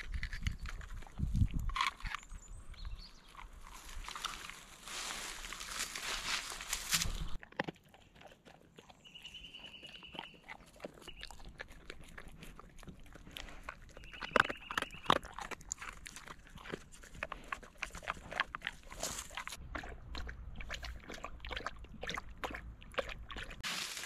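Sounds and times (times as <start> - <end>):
dog crunching dry kibble: 0.0 - 2.3, 3.3 - 9.1, 9.8 - 24.0.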